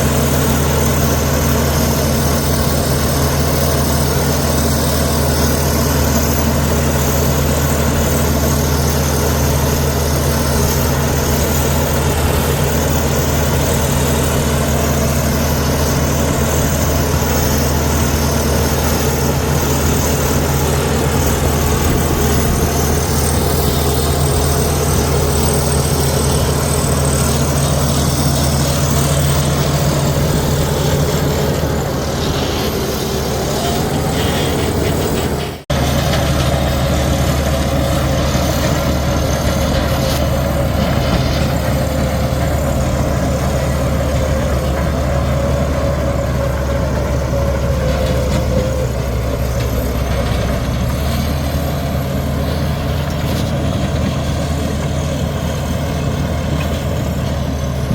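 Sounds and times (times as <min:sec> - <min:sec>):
bulldozer diesel engine humming: 0:00.0 - 0:57.9.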